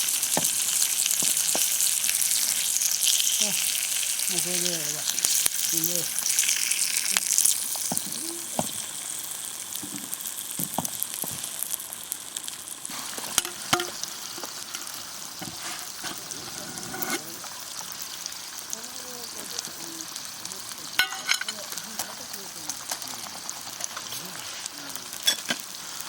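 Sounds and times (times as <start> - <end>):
steak sizzling on hot stones: 0.0 - 26.0.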